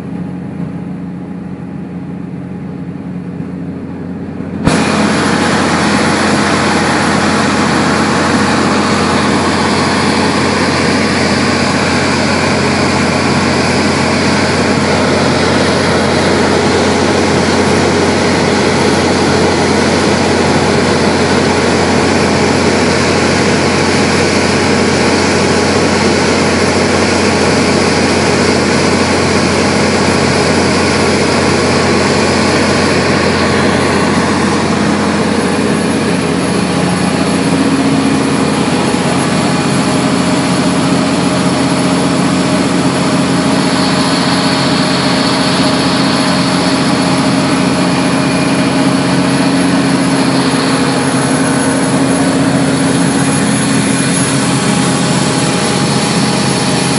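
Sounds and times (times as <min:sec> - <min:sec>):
air compressor running: 0:00.0 - 0:56.9.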